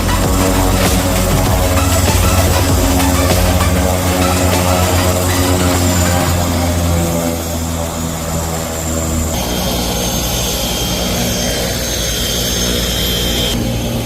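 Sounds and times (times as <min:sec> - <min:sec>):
helicopter rotor thrum: 0:00.0 - 0:14.0
helicopter turbine whine: 0:00.0 - 0:14.0.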